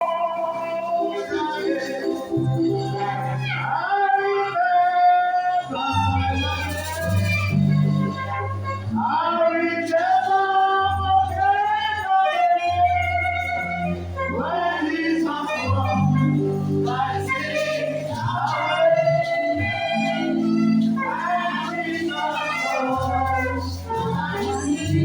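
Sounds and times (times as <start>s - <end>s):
gospel singers: 0.0s - 25.0s
keyboard and bass accompaniment: 0.0s - 25.0s.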